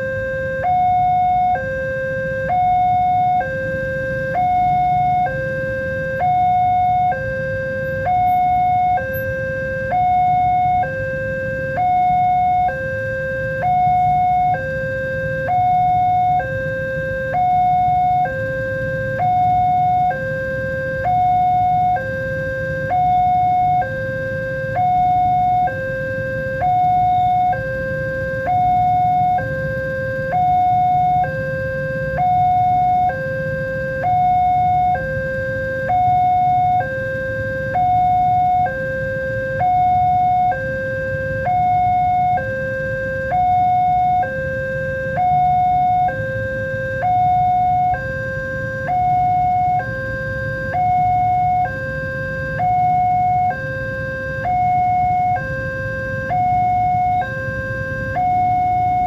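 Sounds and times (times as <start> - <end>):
level crossing alarm two tones: 0.0 - 59.0.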